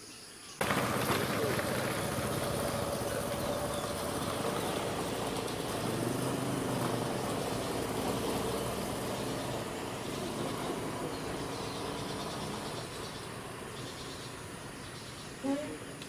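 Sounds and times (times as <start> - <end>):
vehicle engine running: 0.6 - 16.0.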